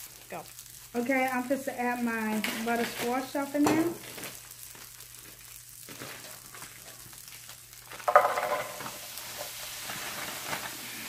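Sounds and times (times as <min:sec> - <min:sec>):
peas sizzling in oil: 0:00.0 - 0:11.0
plastic bag rustling: 0:01.9 - 0:11.0.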